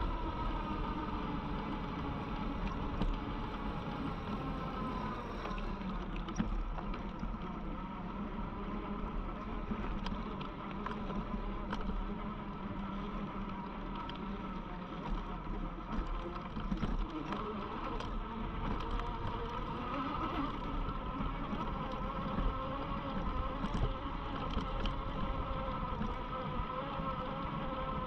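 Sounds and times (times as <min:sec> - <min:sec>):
faint electric motor whine: 0:00.0 - 0:28.0
motorbike motor and tyre noise: 0:00.0 - 0:28.0.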